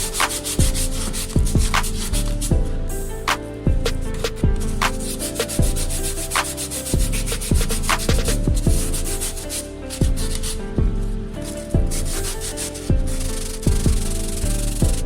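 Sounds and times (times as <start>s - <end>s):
hand-sanding rasping strokes: 0.0s - 2.5s, 4.1s - 14.9s
background music with kick drums: 0.0s - 15.0s.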